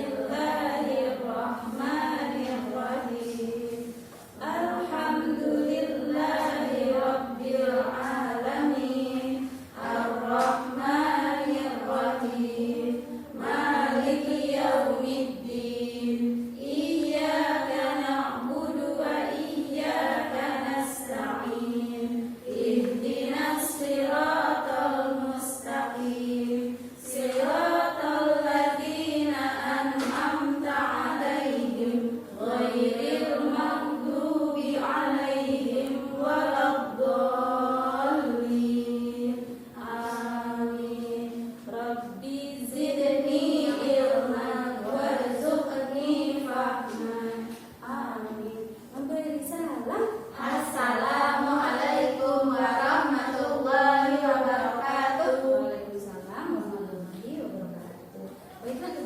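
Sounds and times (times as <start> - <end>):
voices singing in unison: 0.0 - 49.1, 49.8 - 56.1.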